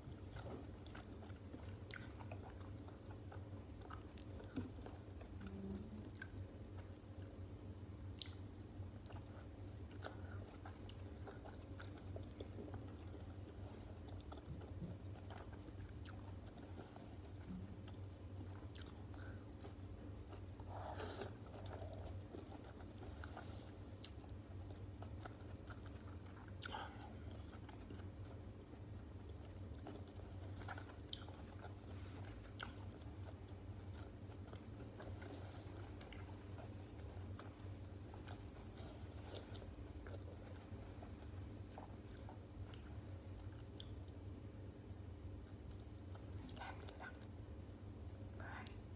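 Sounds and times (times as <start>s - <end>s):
person chewing: 0.0s - 7.4s, 8.1s - 44.5s.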